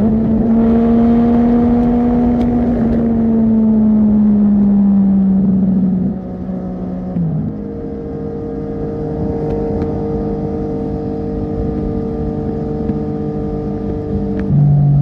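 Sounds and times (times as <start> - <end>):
motorcycle engine high steady pitch: 0.0 - 15.0.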